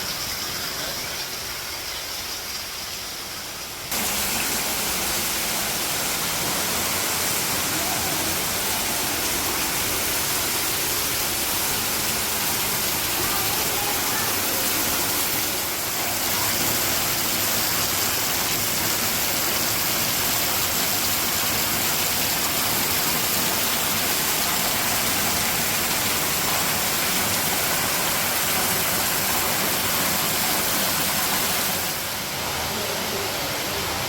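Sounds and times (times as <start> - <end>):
water rushing: 0.0 - 34.0.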